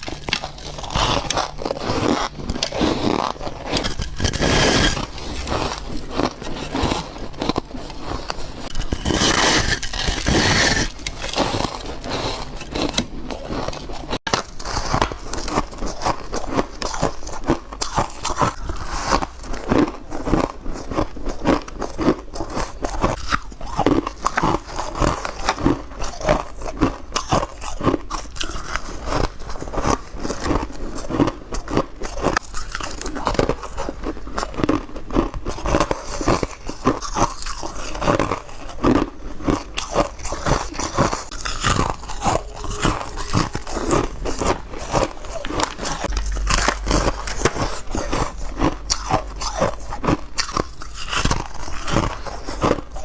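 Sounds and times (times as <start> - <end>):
person chewing ice: 0.0 - 53.0.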